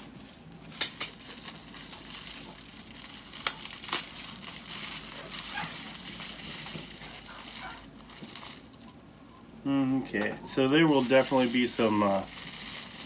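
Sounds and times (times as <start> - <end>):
plastic wrapping crinkling: 0.0 - 9.4, 10.5 - 13.0.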